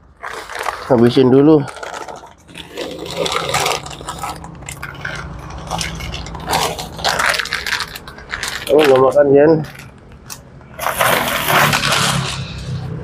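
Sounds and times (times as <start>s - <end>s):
cats crunching food: 0.0s - 13.0s.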